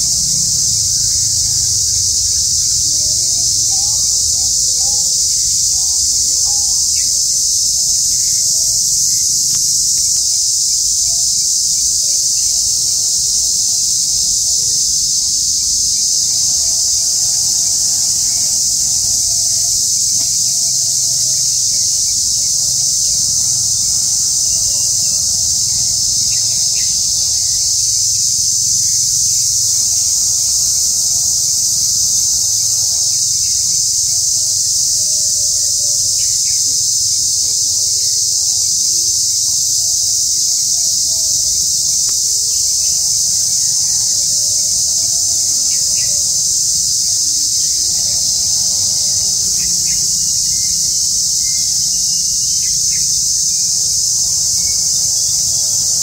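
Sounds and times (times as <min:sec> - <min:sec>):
insect chorus shrilling: 0:00.0 - 0:56.0.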